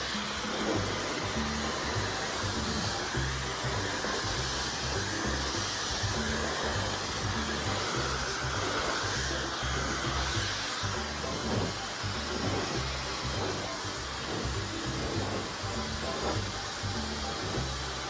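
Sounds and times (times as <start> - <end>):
background music with bass line: 0.0 - 18.0
hair dryer blowing: 0.0 - 18.0.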